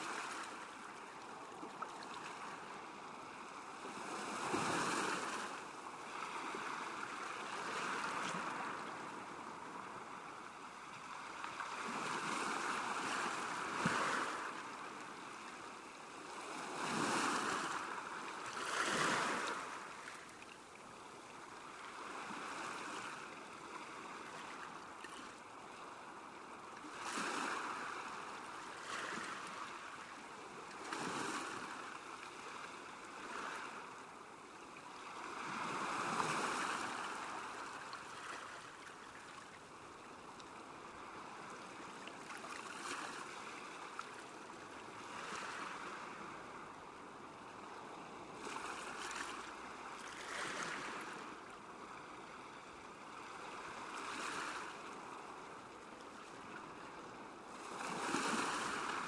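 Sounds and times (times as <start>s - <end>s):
small waves lapping on shore: 0.0s - 59.0s.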